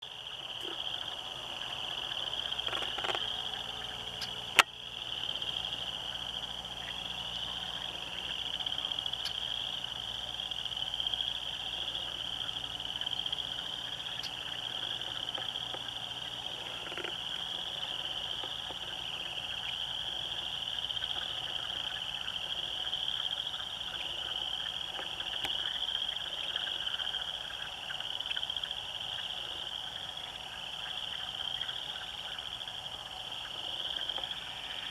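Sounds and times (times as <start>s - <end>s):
frogs trilling in chorus: 0.0s - 34.9s.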